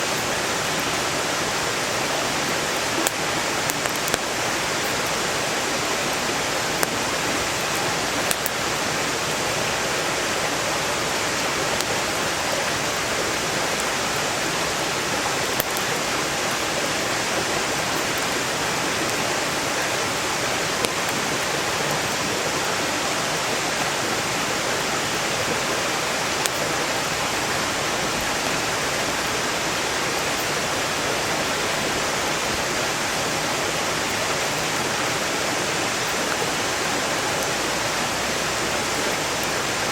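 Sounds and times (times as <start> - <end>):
stream rushing: 0.0 - 39.9
campfire popping: 0.5 - 39.9.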